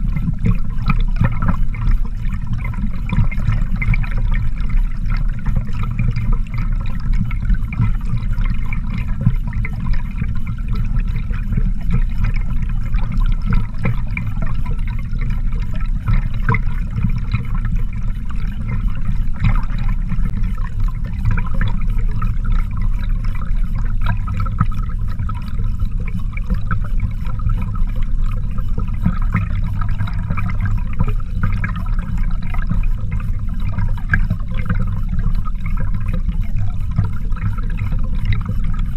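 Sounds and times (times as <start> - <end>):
water rushing underwater: 0.0 - 38.9.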